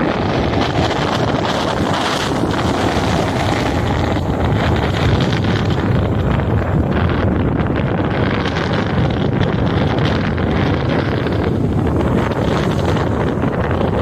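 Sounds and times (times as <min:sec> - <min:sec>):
rough sea surf: 0:00.0 - 0:14.0
wind buffeting microphone: 0:00.0 - 0:14.0.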